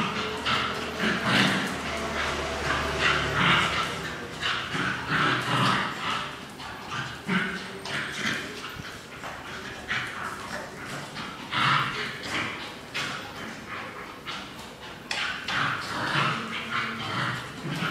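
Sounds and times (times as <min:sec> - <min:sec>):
dogs yipping and whimpering: 0:00.0 - 0:17.9.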